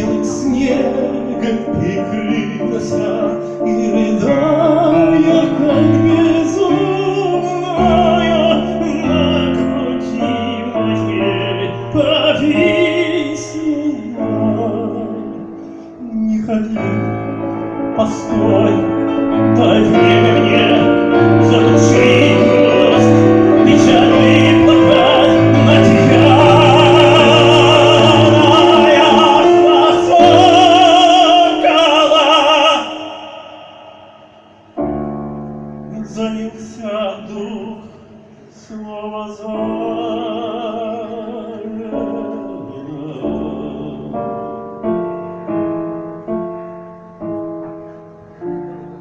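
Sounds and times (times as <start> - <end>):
man singing with vibrato: 0.0 - 47.0
piano playing: 0.0 - 49.0.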